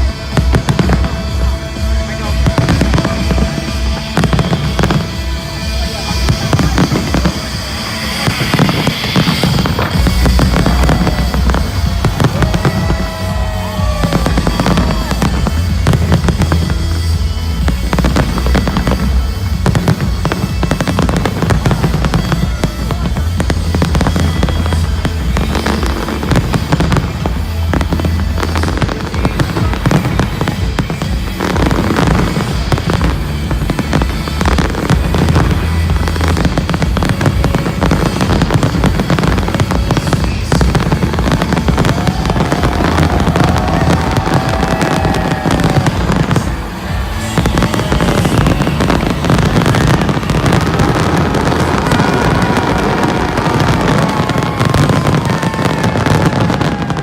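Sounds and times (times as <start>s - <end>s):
fireworks bursting and crackling: 0.0s - 57.0s
music: 0.0s - 57.0s.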